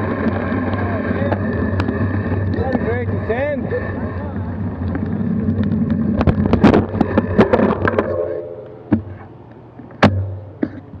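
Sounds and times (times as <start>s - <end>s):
low road and wind rumble: 0.0s - 11.0s.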